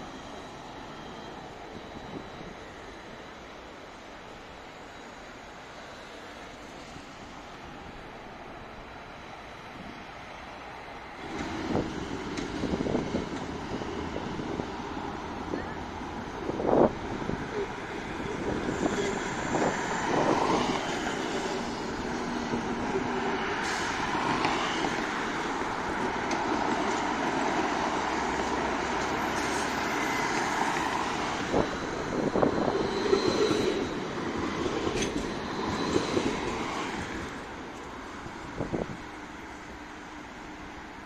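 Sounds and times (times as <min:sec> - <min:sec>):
tram running on tracks: 0:00.0 - 0:41.0.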